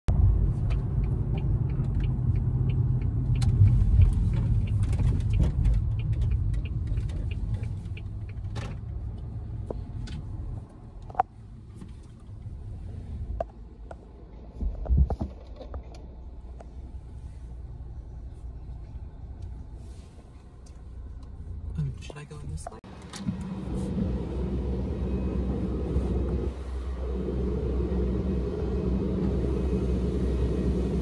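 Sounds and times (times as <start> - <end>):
car cabin road rumble: 0.1 - 31.0.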